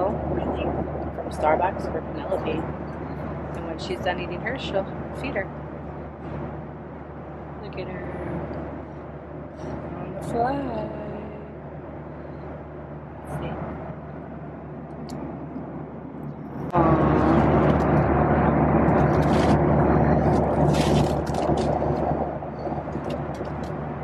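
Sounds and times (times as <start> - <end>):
background hum: 0.0 - 24.0
loud steady rushing noise: 0.0 - 24.0.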